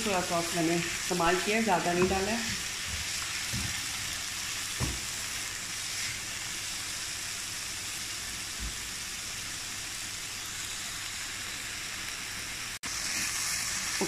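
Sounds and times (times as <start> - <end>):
vegetables sizzling in a wok: 0.0 - 14.0.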